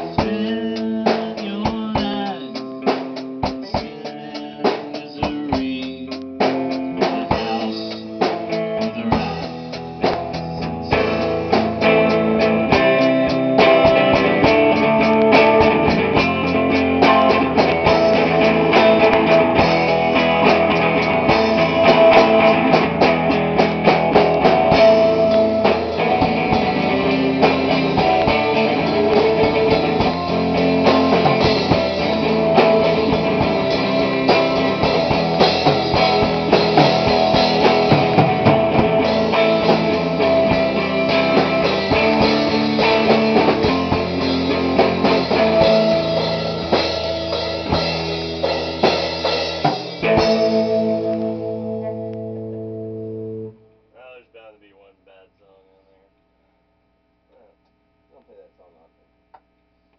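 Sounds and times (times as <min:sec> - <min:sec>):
rock band playing loudly: 0:00.0 - 0:53.6
drum kit: 0:00.0 - 0:54.1.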